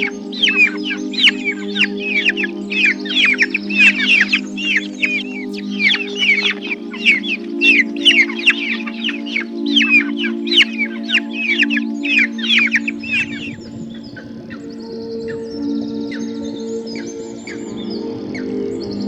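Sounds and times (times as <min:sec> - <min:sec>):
baby fowl peeping: 0:00.0 - 0:18.9
background music chords: 0:00.0 - 0:19.0.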